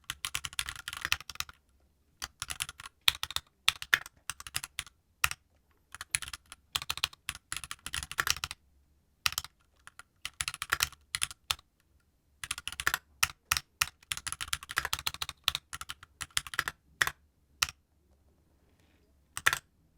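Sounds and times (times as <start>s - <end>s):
mechanical keyboard typing: 0.0s - 1.6s, 2.2s - 8.6s, 9.2s - 11.7s, 12.4s - 17.8s, 19.4s - 19.7s.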